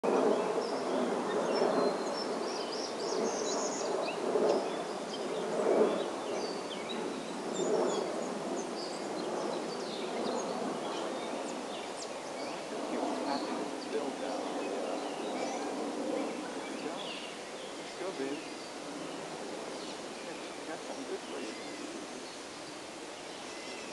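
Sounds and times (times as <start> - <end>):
low hum and rush: 0.0 - 23.9.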